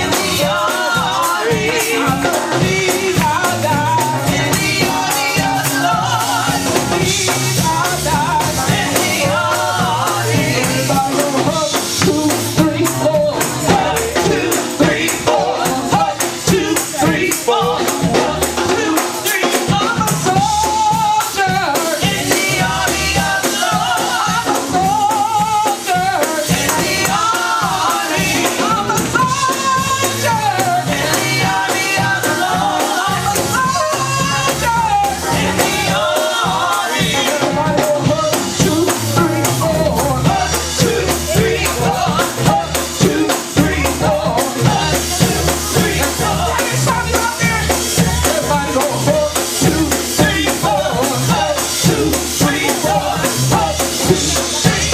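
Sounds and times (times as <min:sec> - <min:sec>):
bass line: 0:00.0 - 0:54.9
voices singing: 0:00.0 - 0:54.9.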